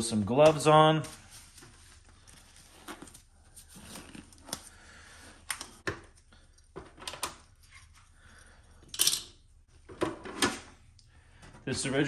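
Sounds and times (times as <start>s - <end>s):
gloved hands handling plastic: 0.0s - 10.1s.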